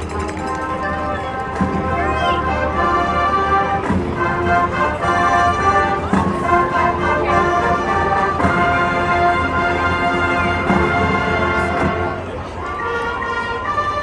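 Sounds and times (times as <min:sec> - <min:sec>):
brass chords: 0:00.0 - 0:14.0.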